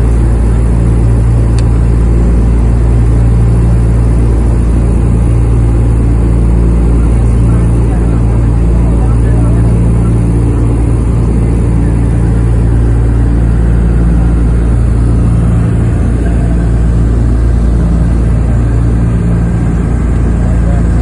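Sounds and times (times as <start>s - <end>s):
propeller engines droning: 0.0s - 21.0s.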